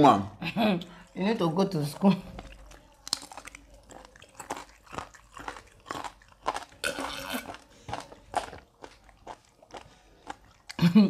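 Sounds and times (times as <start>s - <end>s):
chewing with wet smacks: 0.9s - 11.0s.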